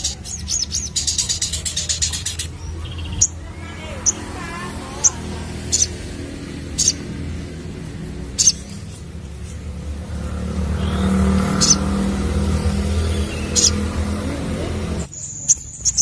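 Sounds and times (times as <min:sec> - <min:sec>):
bird chips: 0:00.0 - 0:09.9, 0:10.7 - 0:16.0
low rumble of vehicle engine: 0:00.0 - 0:16.0.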